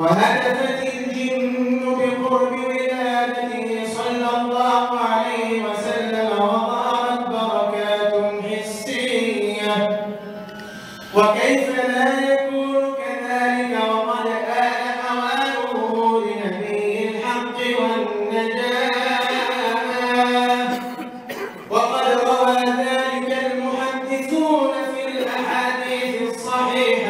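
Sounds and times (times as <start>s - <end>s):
man chanting into a microphone: 0.0s - 27.0s.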